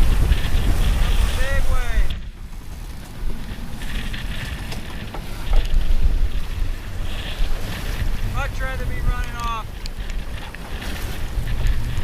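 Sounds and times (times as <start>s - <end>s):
low rumble and hiss of sea: 0.0s - 12.0s
wind buffeting microphone: 0.0s - 12.0s.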